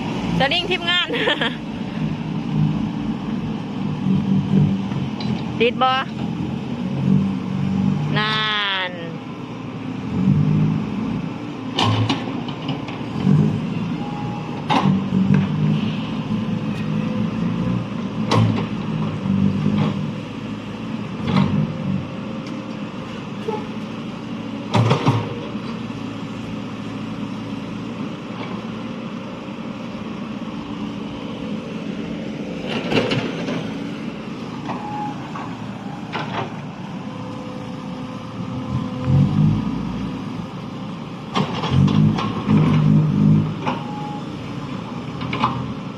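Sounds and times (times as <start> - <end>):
large vehicle engine running: 0.0 - 45.9.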